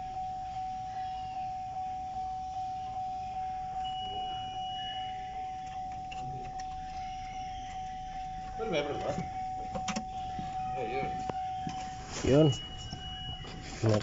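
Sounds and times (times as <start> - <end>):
vehicle warning chime dinging: 0.0 - 14.0.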